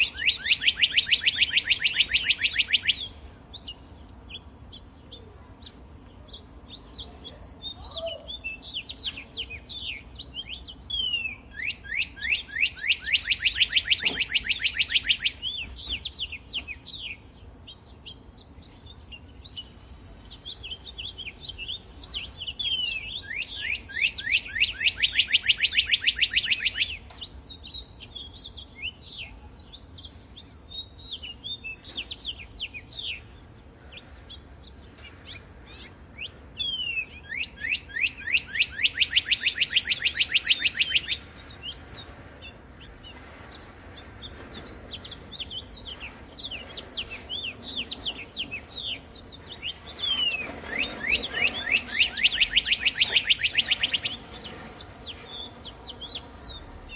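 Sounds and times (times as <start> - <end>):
birds chirping and whistling: 0.0 - 56.9.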